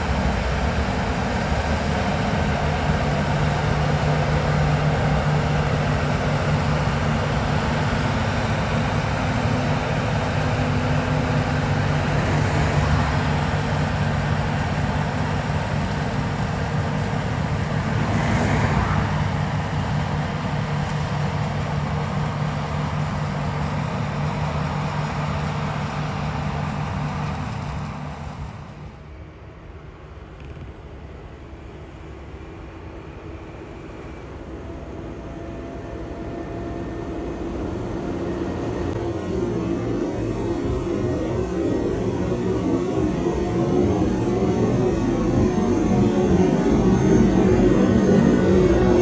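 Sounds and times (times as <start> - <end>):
diesel engine running: 0.0 - 29.4, 32.8 - 49.0.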